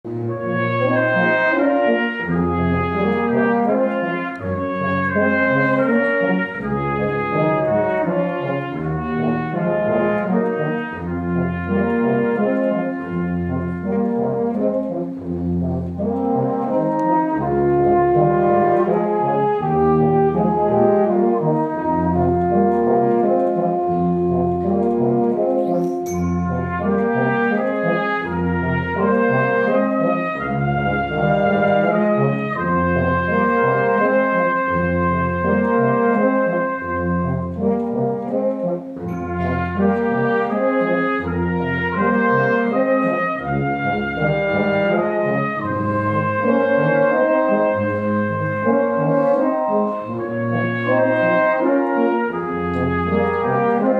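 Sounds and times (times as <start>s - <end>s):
tuba bass line: 0.0s - 53.9s
brass band playing: 0.1s - 53.9s.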